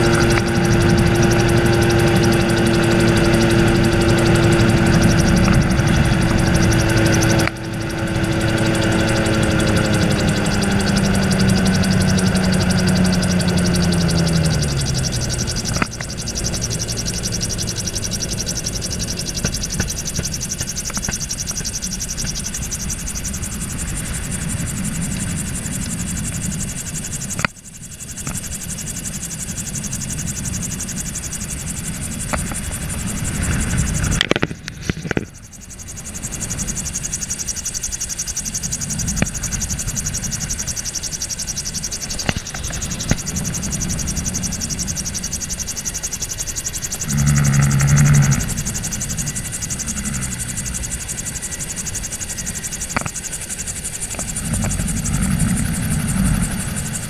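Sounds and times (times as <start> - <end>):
aircraft engine and propeller buzz: 0.0 - 57.0
wind noise: 0.0 - 57.0.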